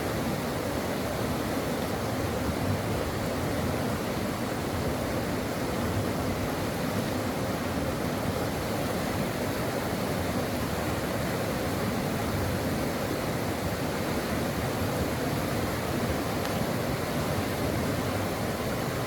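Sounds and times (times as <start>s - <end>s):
brook water flowing: 0.0s - 19.0s.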